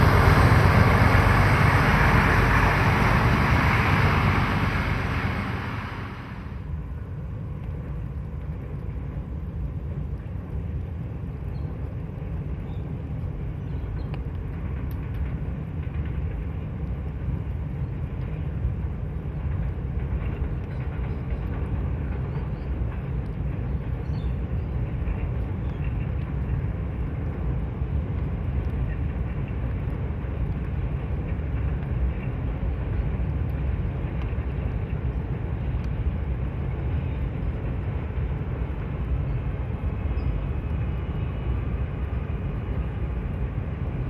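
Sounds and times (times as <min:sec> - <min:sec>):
distant locomotive engine rumbling: 0:00.0 - 0:44.0.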